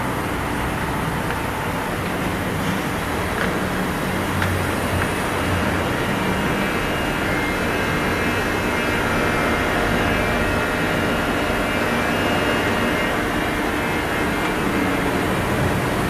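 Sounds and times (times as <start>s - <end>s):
machining center whirring: 0.0s - 16.0s.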